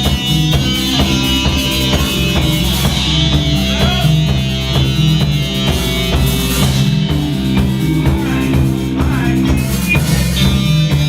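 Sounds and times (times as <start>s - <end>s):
bass guitar: 0.0s - 11.0s
drum kit beat: 0.0s - 11.0s
electric guitar: 0.0s - 11.0s.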